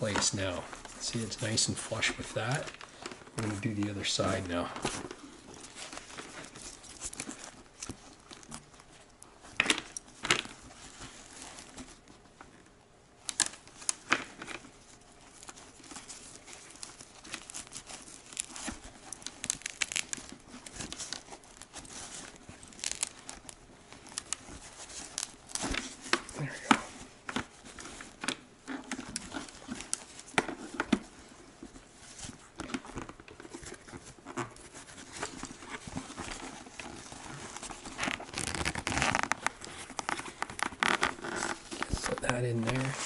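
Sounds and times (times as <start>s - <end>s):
fabric rustling and crinkling: 0.0s - 43.0s.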